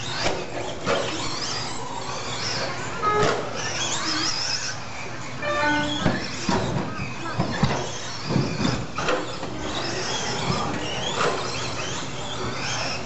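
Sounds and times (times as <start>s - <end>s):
toy car motors whining: 0.0s - 13.0s.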